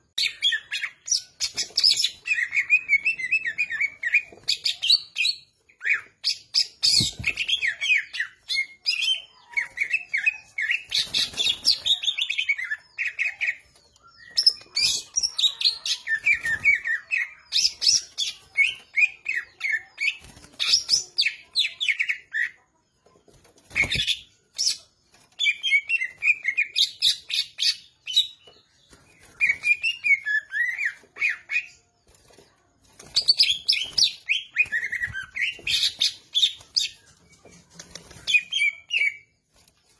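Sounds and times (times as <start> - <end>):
bird singing chirps and whistles: 0.2 - 22.3, 23.7 - 31.9, 33.0 - 39.3.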